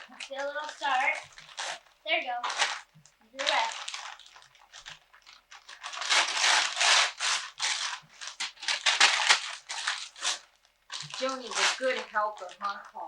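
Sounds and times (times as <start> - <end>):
wrapping paper tearing: 0.0 - 13.0.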